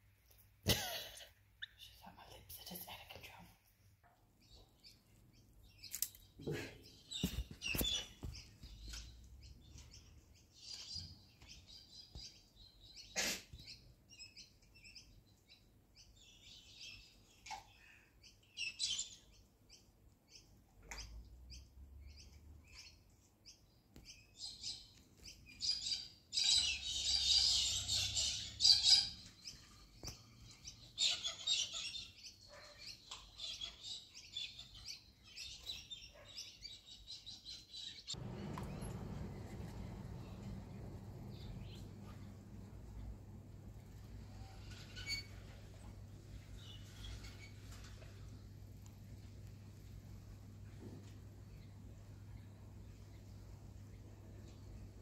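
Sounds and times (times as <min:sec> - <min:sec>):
birds chirping: 0:04.4 - 0:49.1.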